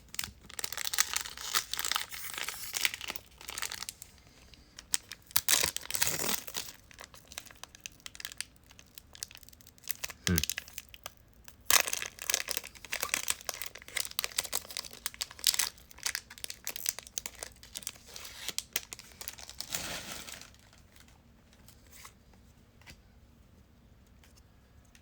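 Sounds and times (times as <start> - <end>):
wrapper crinkling and tearing: 0.1 - 4.2, 4.8 - 20.8.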